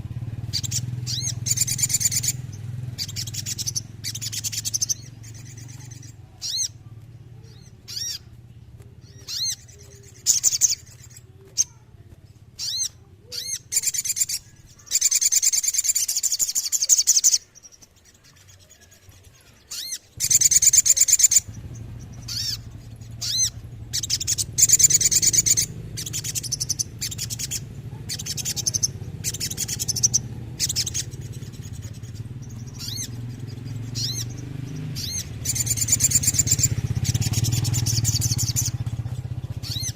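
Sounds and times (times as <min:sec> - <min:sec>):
bird singing sharp notes and trills: 0:00.0 - 0:39.9.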